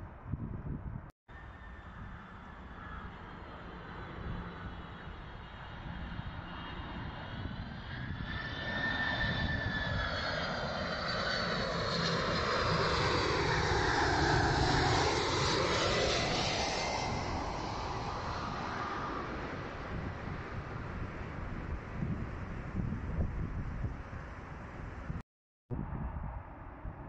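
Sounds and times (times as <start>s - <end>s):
high jet engine whine: 1.4s - 25.2s
jet engines on approach: 1.4s - 25.2s.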